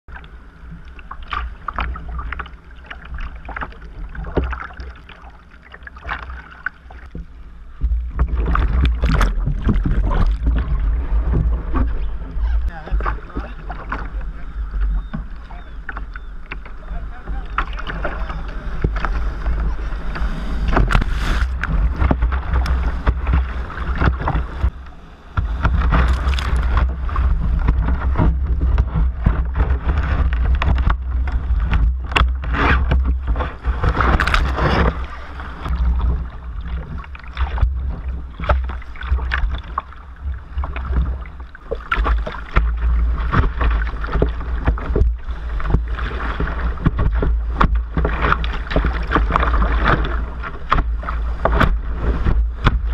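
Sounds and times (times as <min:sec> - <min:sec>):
low rumble of surf: 0:00.1 - 0:52.9
water splashing against kayak: 0:00.1 - 0:52.9.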